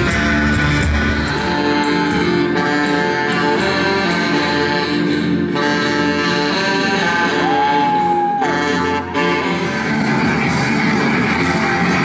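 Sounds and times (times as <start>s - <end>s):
saxophone long notes: 0.0s - 10.6s
electric guitars: 0.0s - 12.0s.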